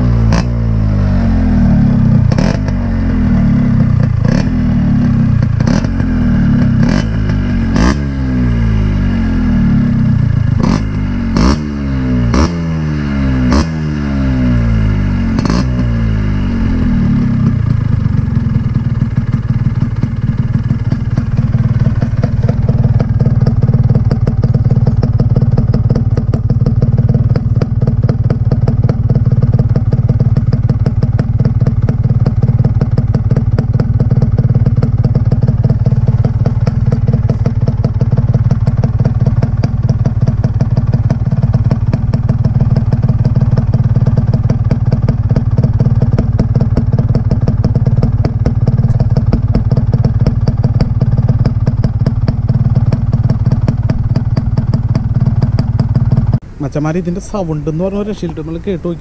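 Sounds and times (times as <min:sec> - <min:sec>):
two-stroke engine idling: 0:00.0 - 0:59.0.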